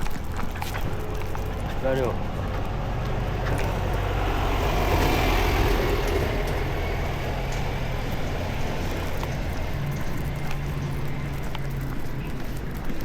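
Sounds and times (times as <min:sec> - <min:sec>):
street noise: 0:00.0 - 0:13.0
vehicle engine rumbling: 0:00.0 - 0:13.0.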